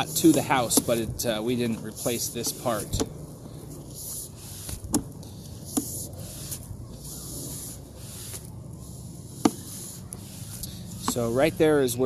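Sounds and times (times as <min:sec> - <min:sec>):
cable rubbing hiss: 0:00.0 - 0:03.0, 0:03.6 - 0:11.8
low steady hum: 0:00.0 - 0:12.0.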